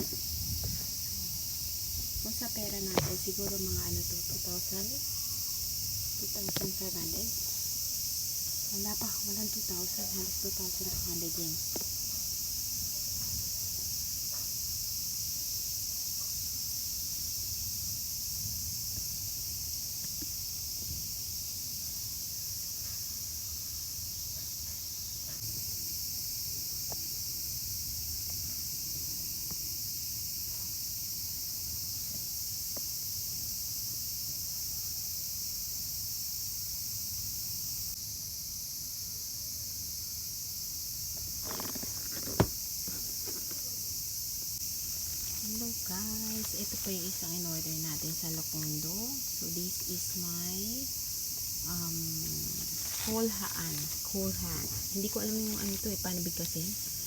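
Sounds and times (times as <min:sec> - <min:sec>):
high-pitched chirring hiss: 0:00.0 - 0:57.0.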